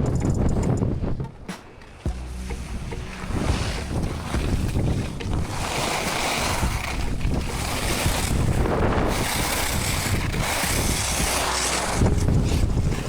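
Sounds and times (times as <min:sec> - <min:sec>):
wind buffeting microphone: 0:00.0 - 0:13.0
skis scraping over snow: 0:01.9 - 0:13.0.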